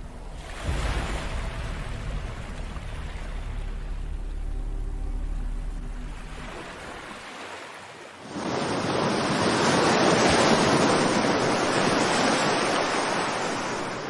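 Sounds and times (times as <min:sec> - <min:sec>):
ocean wave breaking: 0:00.0 - 0:14.0.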